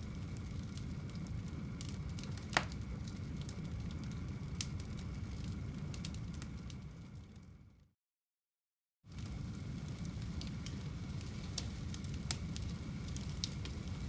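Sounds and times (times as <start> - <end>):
fire crackling: 0.0 - 7.5, 9.1 - 14.0
fire rumbling: 0.0 - 7.7, 9.1 - 14.0.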